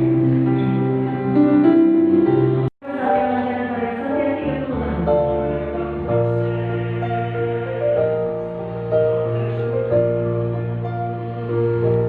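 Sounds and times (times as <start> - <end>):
choir singing sustained chords: 2.1 - 12.0.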